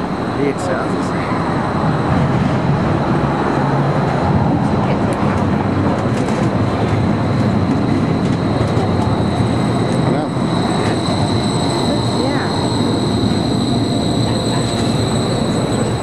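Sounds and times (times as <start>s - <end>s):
street noise: 0.0s - 16.0s
streetcar approaching on rails: 0.0s - 16.0s.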